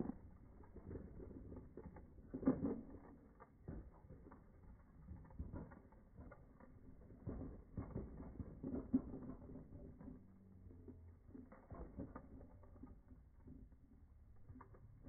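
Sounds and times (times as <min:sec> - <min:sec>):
bike rolling over concrete: 0:00.0 - 0:15.0.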